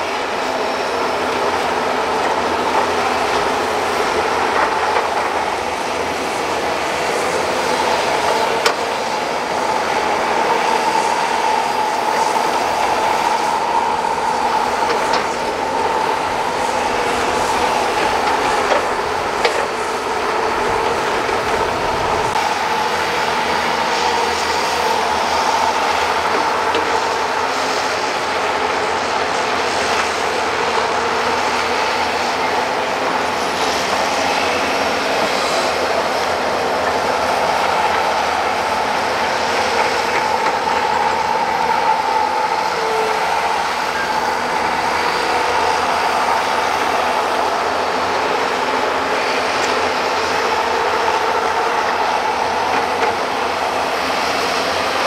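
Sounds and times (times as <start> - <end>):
excavator engine and hydraulic drone: 0.0 - 55.0.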